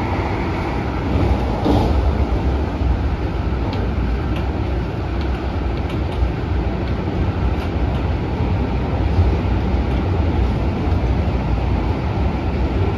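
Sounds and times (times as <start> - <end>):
deep train rumble: 0.0 - 12.9
wind rush inside train car: 0.0 - 12.9.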